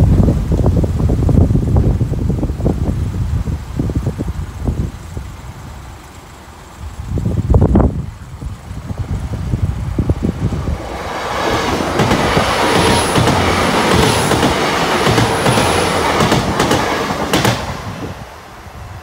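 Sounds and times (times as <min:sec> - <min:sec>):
train engines and wheels rushing: 0:00.0 - 0:19.0.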